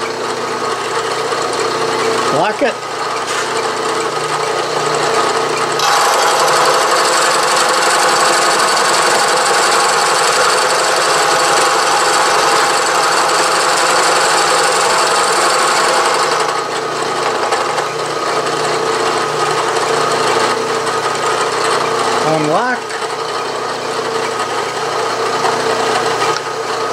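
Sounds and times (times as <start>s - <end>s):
milling machine cutting steel: 0.6s - 26.9s.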